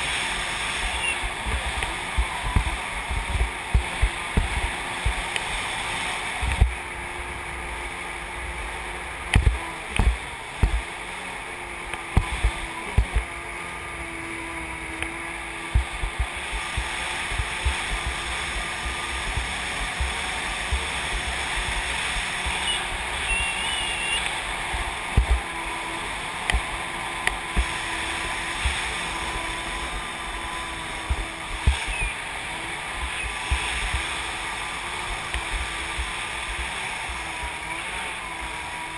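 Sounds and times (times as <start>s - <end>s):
jet ski engine running: 0.0s - 38.9s
water noise: 0.0s - 38.9s.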